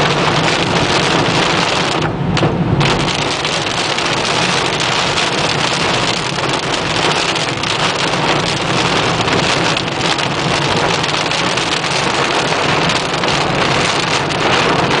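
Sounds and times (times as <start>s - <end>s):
heavy rain pelting a car: 0.0s - 15.0s.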